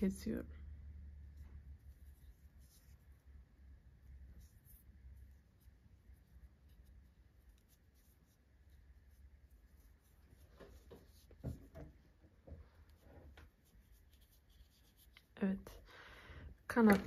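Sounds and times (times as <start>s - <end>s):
yarn and crochet hook rustling: 0.0s - 15.8s.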